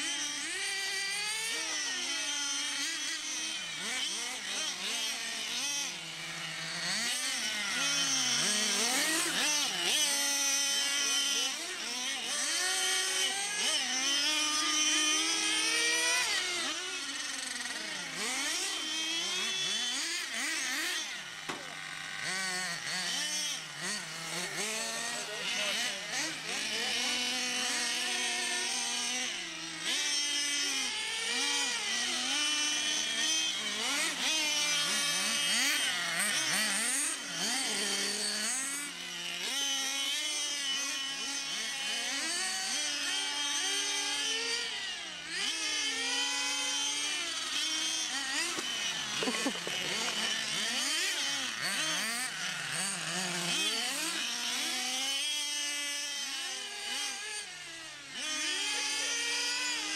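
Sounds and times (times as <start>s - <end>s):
nitro rc car engines revving: 0.0s - 59.9s.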